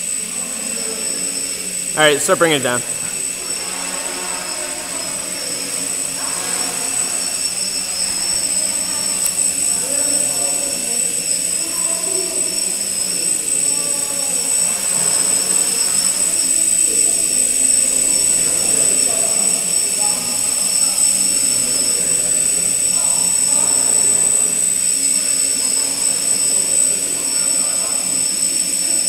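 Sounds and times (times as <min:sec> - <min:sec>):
high steady motor whine: 0:02.8 - 0:29.0.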